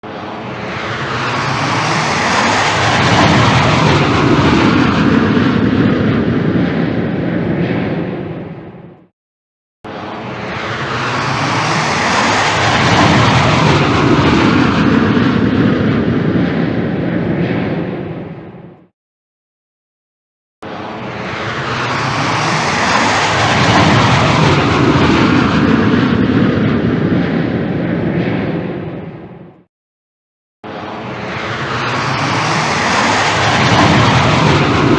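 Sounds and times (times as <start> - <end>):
jet engine roaring past: 0.0 - 9.1, 9.9 - 18.9, 20.6 - 29.7, 30.6 - 34.9.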